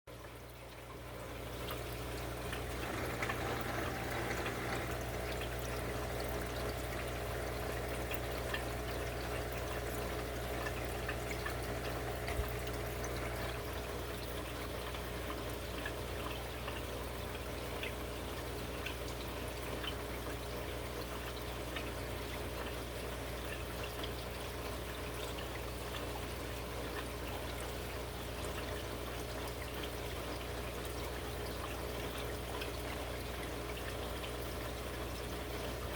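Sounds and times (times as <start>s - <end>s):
water trickling and splashing: 0.1s - 35.9s
water drips: 0.2s - 35.9s.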